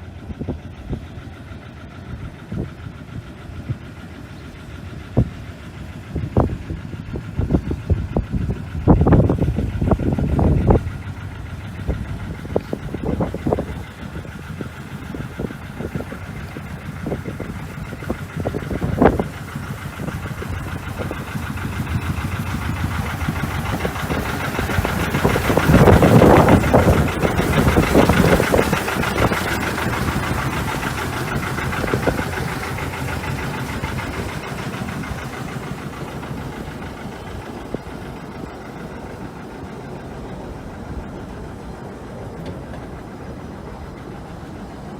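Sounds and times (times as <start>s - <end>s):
locomotive engine running: 0.0s - 44.9s.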